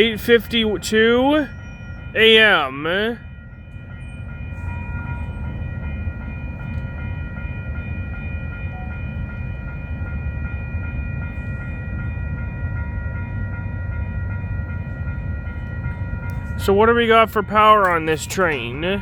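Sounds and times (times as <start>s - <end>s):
diesel locomotive rumble: 0.0s - 19.0s.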